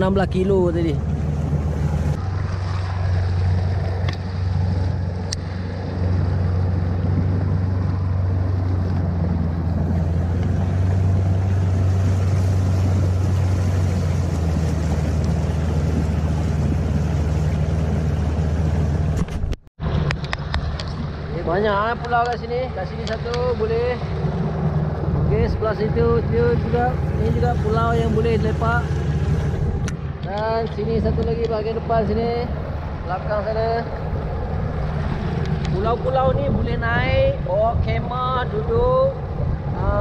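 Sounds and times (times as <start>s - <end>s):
small boat motor running: 0.0s - 36.0s
water noise: 0.0s - 40.0s
wind: 0.0s - 40.0s.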